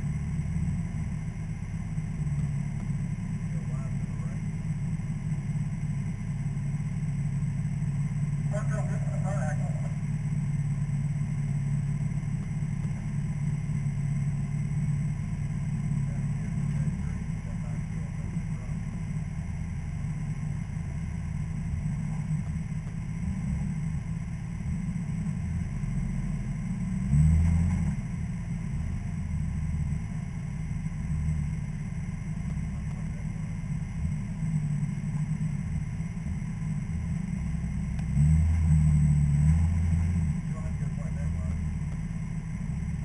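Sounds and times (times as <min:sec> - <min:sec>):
off-road vehicle engine idling: 0:00.0 - 0:43.0.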